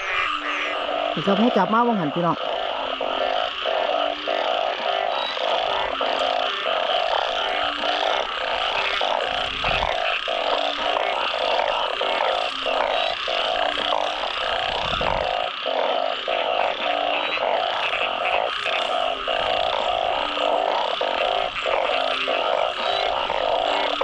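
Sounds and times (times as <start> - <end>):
frogs calling in chorus: 0.0 - 24.0.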